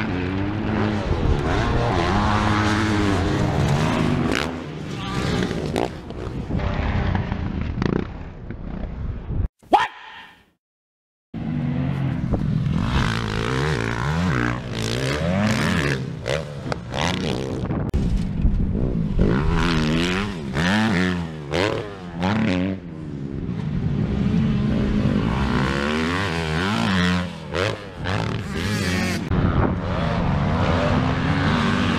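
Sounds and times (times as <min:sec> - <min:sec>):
dirt bike engine revving: 0:00.0 - 0:08.0, 0:11.4 - 0:17.7, 0:19.2 - 0:31.9.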